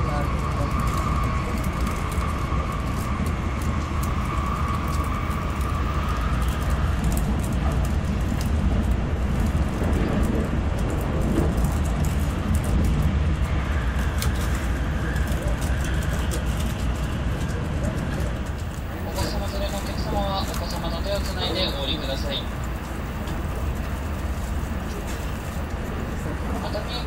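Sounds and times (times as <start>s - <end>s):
train cabin rumble: 0.0s - 27.0s.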